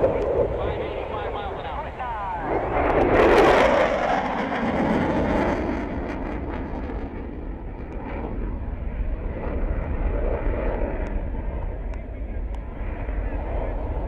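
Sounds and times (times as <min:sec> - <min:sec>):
fighter jet flying past: 0:00.0 - 0:14.0.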